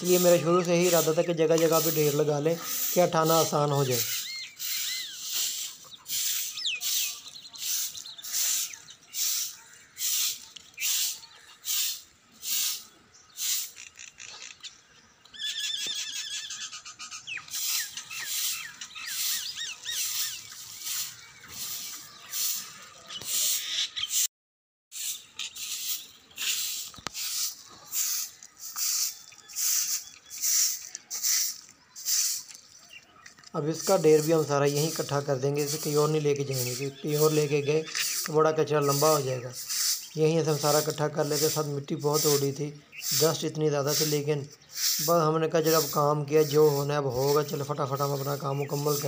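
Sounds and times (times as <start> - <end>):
broom sweeping grit on concrete: 0.0 - 13.8, 17.5 - 24.3, 24.9 - 32.7, 33.6 - 49.0
bird chirps: 0.0 - 24.3, 24.9 - 49.0.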